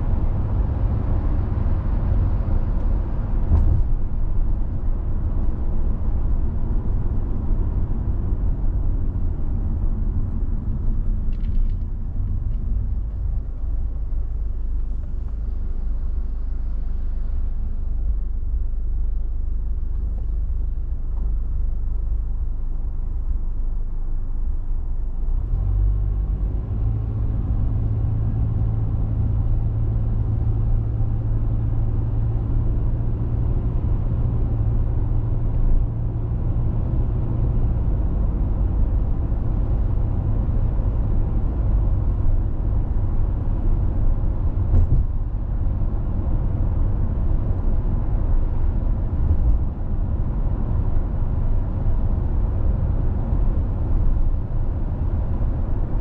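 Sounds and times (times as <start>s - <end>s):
engine hum: 0.0s - 56.0s
tyres and engine rumble: 0.0s - 56.0s.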